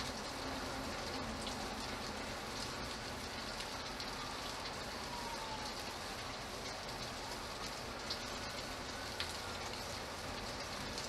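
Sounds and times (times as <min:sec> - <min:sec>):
steady rain falling: 0:00.0 - 0:11.0
water dripping off roof: 0:00.0 - 0:11.0.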